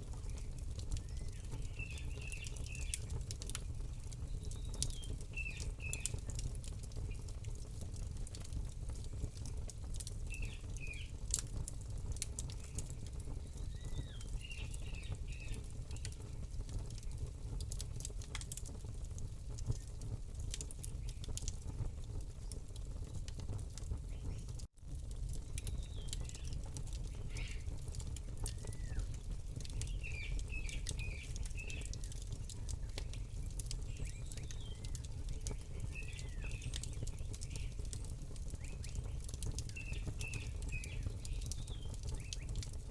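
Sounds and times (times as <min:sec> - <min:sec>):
small birds chirping: 0:00.0 - 0:17.7, 0:20.6 - 0:21.5, 0:23.9 - 0:24.6, 0:25.5 - 0:42.8
campfire crackling and popping: 0:00.0 - 0:42.9.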